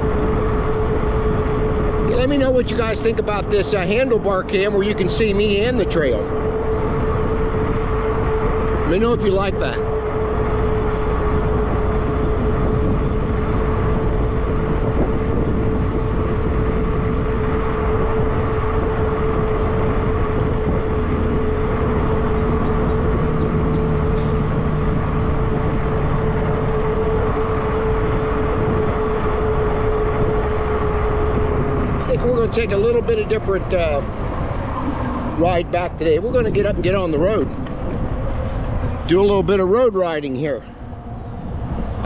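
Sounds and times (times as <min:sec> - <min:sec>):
tyres rolling on trail: 0:00.0 - 0:42.0
wind rushing over microphone: 0:00.0 - 0:42.0
electric motor whine: 0:04.9 - 0:39.1.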